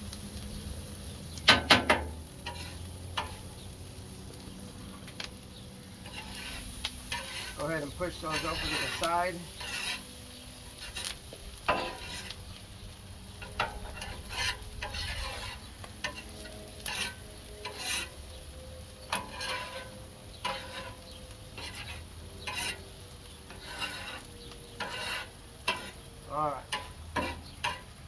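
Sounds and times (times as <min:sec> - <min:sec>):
vegetables sizzling in butter: 0:00.0 - 0:28.0
utensil scraping cooking surface: 0:01.7 - 0:03.6, 0:06.0 - 0:18.4, 0:19.1 - 0:28.0.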